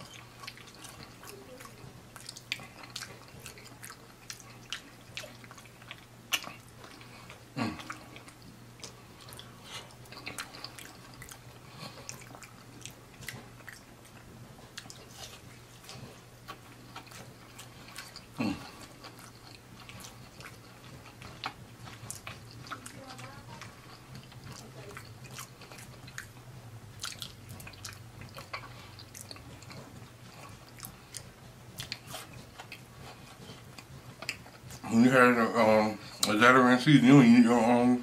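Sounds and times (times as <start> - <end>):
chewing and crunching food: 0.0 - 38.0
steady low hum: 0.0 - 38.0.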